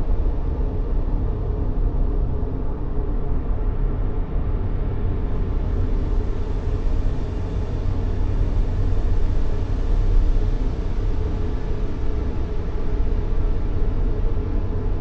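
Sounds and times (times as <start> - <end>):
low rumbling white noise: 0.0 - 15.0.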